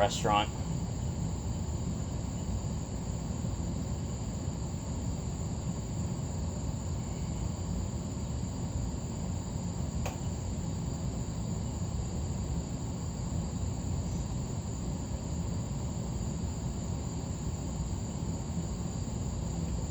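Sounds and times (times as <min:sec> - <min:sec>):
ceiling fan running: 0:00.0 - 0:19.9.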